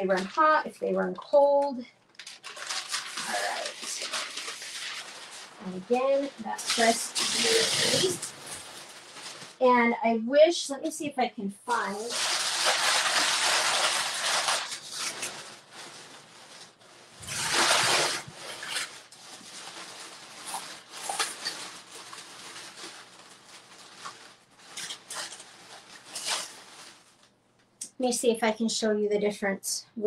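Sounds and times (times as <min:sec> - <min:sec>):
rummaging rustling by hand: 0:00.0 - 0:09.6, 0:11.7 - 0:27.3.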